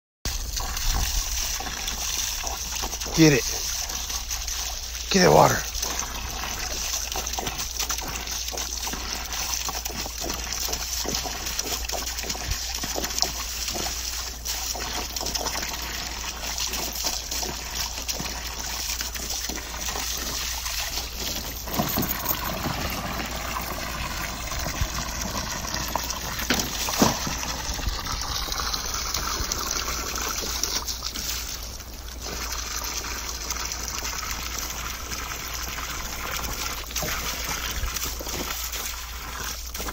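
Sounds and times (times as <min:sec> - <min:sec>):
hose water trickling into pool: 0:00.3 - 0:39.9
dog splashing in water: 0:00.4 - 0:39.9.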